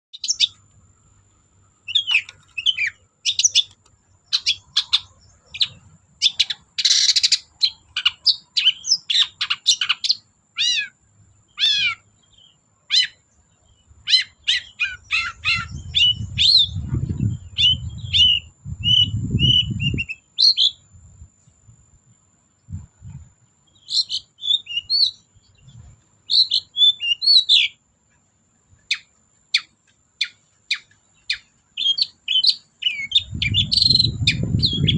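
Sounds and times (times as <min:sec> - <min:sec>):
shrike singing chirps and whistles: 0:00.1 - 0:00.6, 0:01.8 - 0:21.0, 0:23.6 - 0:27.8, 0:28.8 - 0:34.9.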